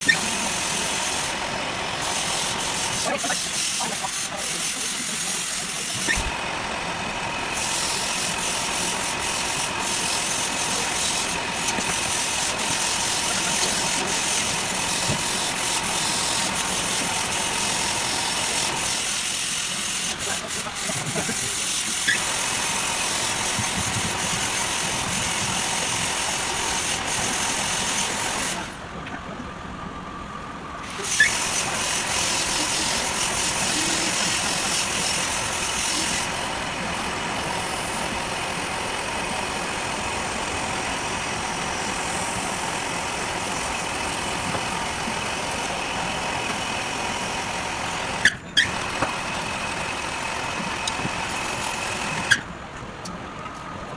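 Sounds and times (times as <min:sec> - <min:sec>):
lathe machining: 0:00.0 - 0:53.9.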